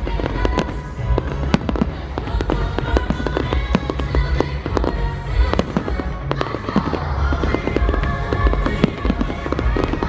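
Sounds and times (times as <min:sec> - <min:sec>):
fireworks bangs and crackles: 0:00.0 - 0:10.0
music with deep bass: 0:00.0 - 0:10.0.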